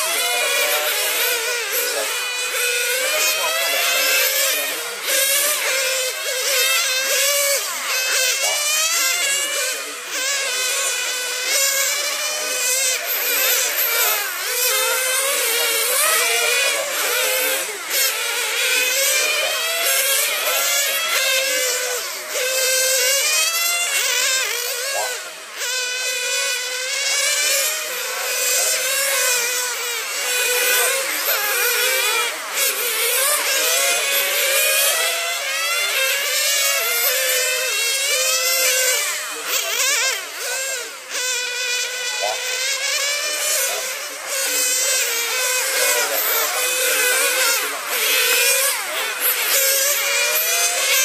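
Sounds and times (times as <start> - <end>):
model racing car motors whining: 0.0 - 51.0.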